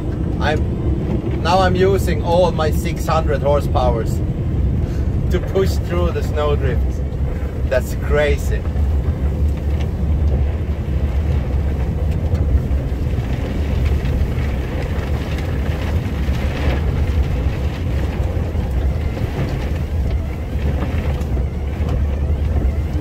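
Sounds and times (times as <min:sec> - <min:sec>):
rushing snow and wind: 0:00.0 - 0:23.0
truck engine running hard: 0:00.0 - 0:23.0.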